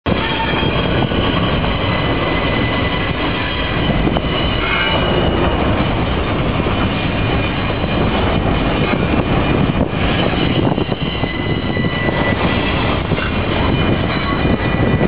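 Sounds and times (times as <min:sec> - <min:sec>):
train wheels rumbling on rail: 0:00.0 - 0:15.0
wheels squealing: 0:00.2 - 0:05.8, 0:06.5 - 0:15.0.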